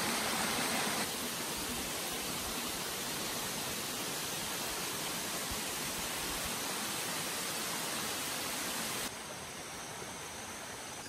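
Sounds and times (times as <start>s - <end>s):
waterfall rushing: 0.0s - 9.1s
quieter steady hiss: 0.0s - 11.0s.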